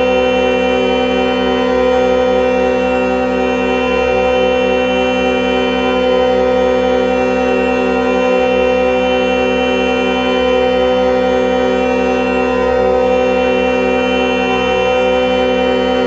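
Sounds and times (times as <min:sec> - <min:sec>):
horns blaring in a chord: 0:00.0 - 0:16.0.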